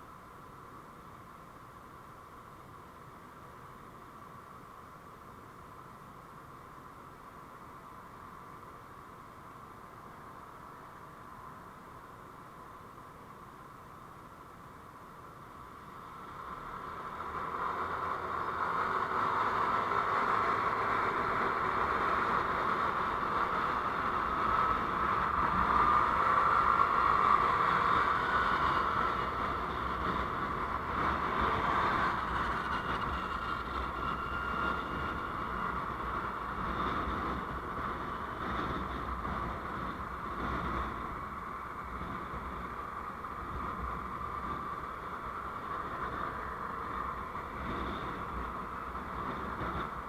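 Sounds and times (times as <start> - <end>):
vehicle road and wind noise: 0.0 - 50.0.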